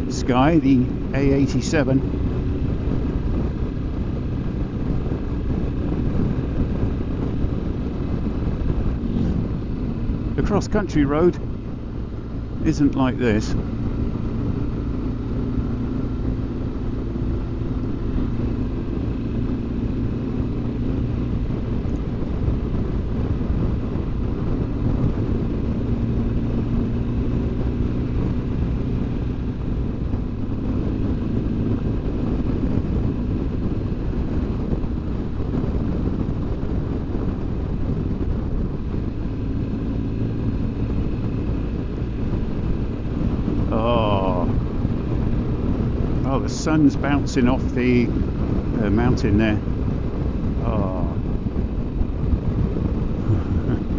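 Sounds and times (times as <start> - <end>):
motorcycle engine droning: 0.0 - 53.9
wind rushing noise: 0.0 - 53.9.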